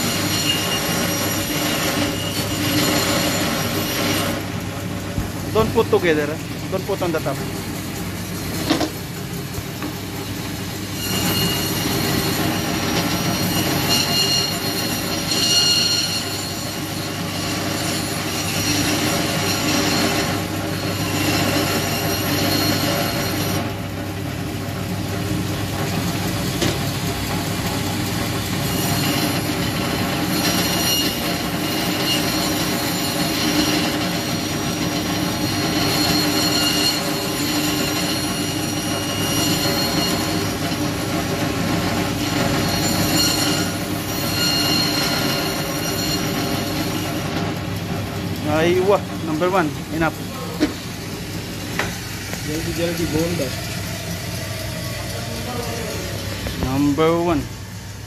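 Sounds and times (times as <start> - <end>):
band saw cutting meat: 0.0 - 57.6.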